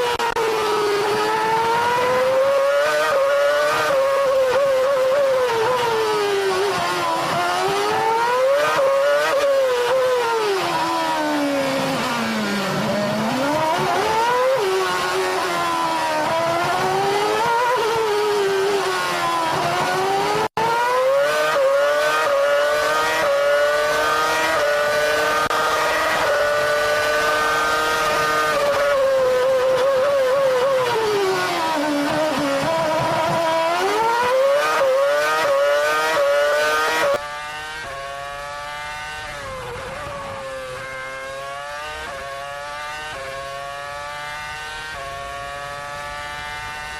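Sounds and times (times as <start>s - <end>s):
racing car engine: 0.0s - 46.9s.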